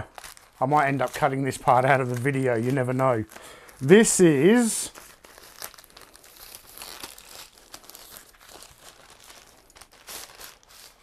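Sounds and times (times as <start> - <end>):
plastic mailer bag crinkling: 0.0 - 11.0.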